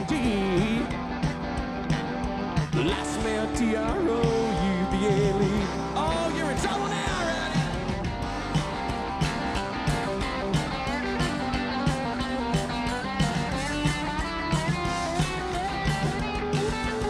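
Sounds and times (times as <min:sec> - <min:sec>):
guitars: 0:00.0 - 0:17.0
steady drum beat: 0:00.0 - 0:17.0.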